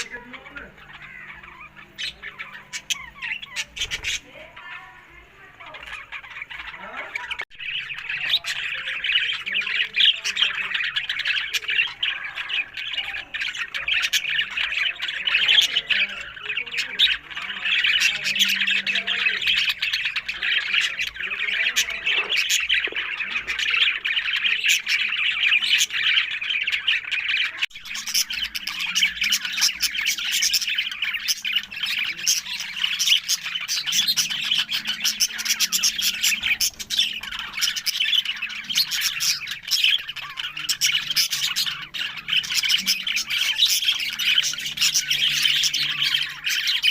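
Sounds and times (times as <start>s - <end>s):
budgerigars chattering and squawking: 0.0s - 46.9s.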